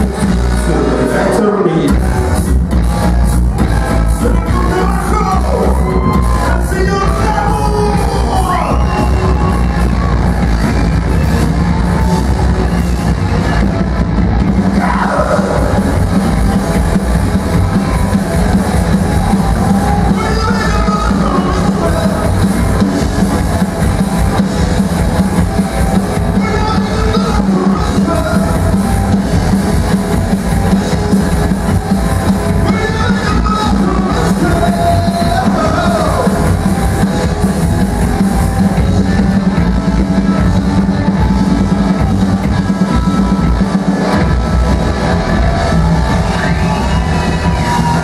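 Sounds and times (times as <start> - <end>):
double bass: 0.0 - 48.0
drum kit: 0.0 - 48.0
electric guitar: 0.0 - 48.0
rock band playing: 0.0 - 48.0.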